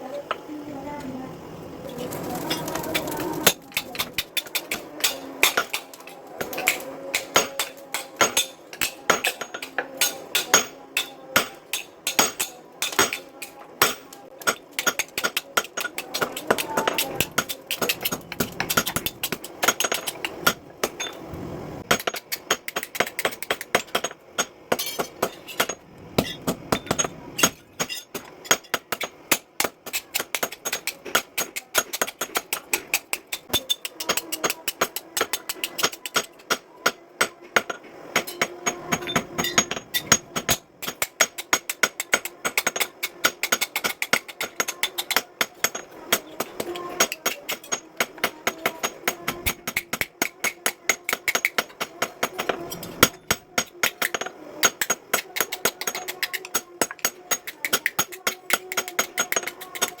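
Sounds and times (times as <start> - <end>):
hammer striking steel: 2.5 - 21.2, 21.8 - 60.0.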